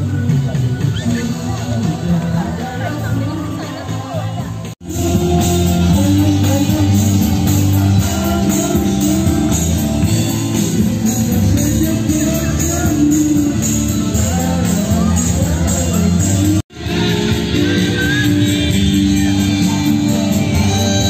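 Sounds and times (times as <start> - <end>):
music with steady beat: 0.0 - 21.0.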